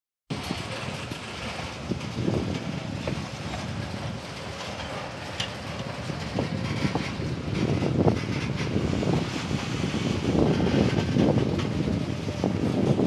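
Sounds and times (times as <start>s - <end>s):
rail cars rolling: 0.3s - 13.0s.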